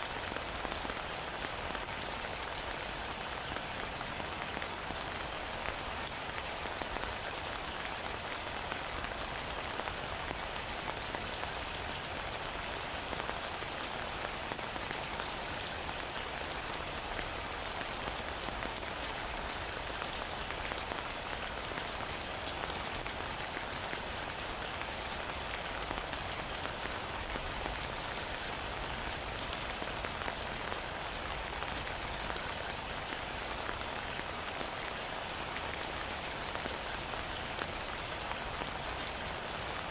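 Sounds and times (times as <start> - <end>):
heavy rain pattering: 0.1 - 39.9.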